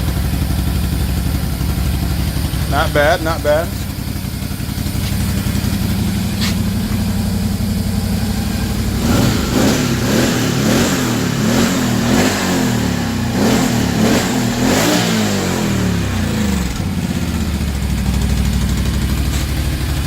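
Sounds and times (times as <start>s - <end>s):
engine idling and revving: 0.0s - 20.0s.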